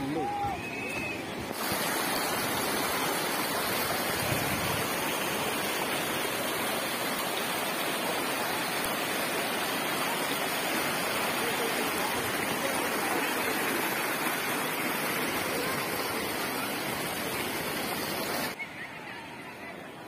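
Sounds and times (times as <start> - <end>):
river water rushing over rocks: 1.4 - 18.6.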